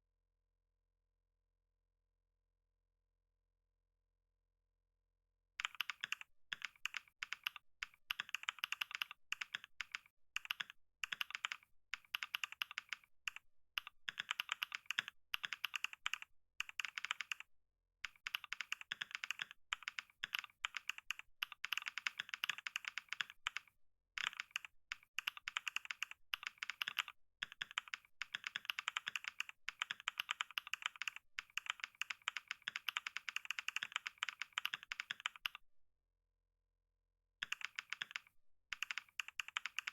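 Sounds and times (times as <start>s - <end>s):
keyboard typing: 5.6s - 35.6s, 37.4s - 39.9s.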